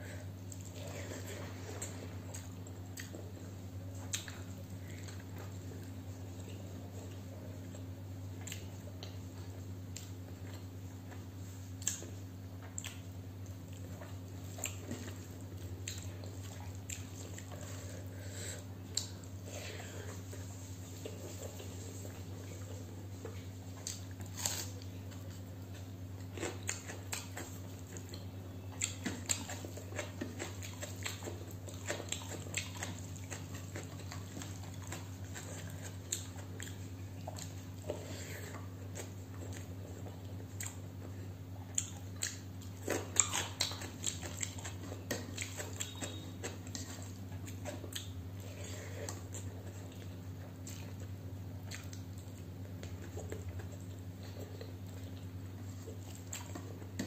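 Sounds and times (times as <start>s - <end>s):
steady low hum: 0.0s - 57.0s
crunchy chewing: 0.1s - 57.0s.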